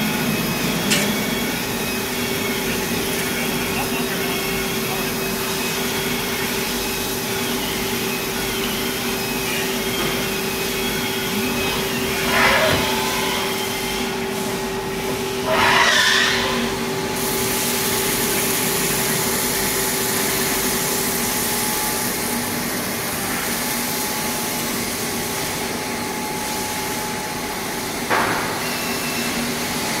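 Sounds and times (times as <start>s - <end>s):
coolant hiss: 0.0s - 15.2s, 16.3s - 30.0s.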